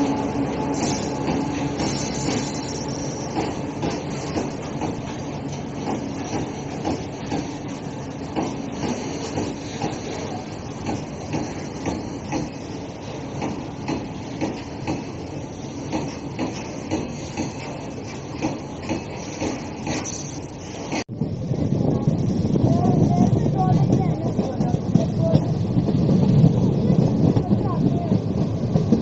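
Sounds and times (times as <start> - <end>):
freight train rumbling past: 0.0 - 29.0
wheels clacking on rails: 0.0 - 29.0.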